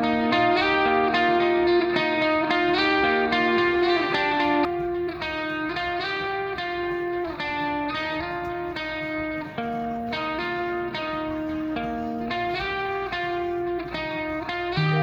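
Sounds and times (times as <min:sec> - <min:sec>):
plucked guitar tune: 0:00.0 - 0:15.0.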